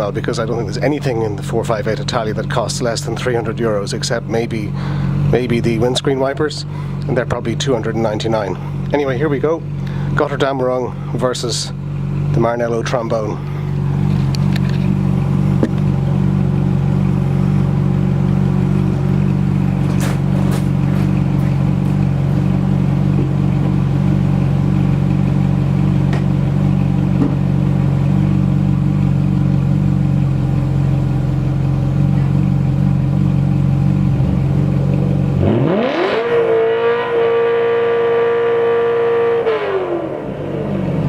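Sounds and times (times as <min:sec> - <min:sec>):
sports car engine idling and revving: 0:00.0 - 0:41.0.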